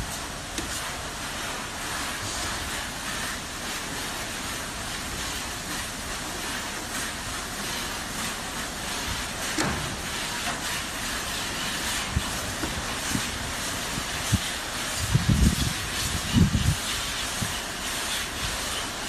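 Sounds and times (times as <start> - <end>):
car wash machinery: 0.0 - 19.0
water spray hissing: 0.0 - 19.0.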